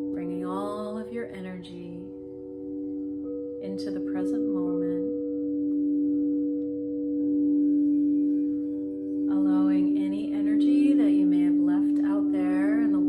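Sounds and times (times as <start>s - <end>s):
crystal singing bowl ringing: 0.0s - 13.0s.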